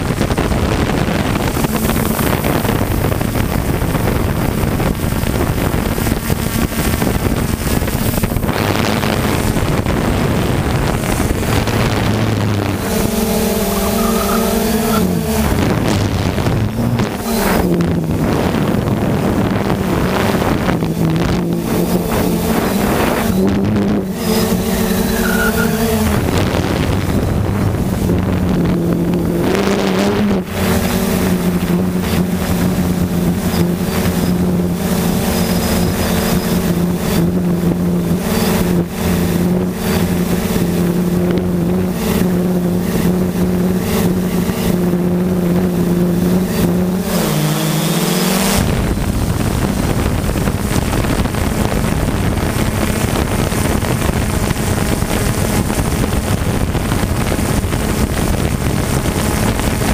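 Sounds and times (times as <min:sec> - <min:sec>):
drone propellers humming: 0:00.0 - 0:59.9
wind noise on microphone: 0:00.0 - 0:59.9.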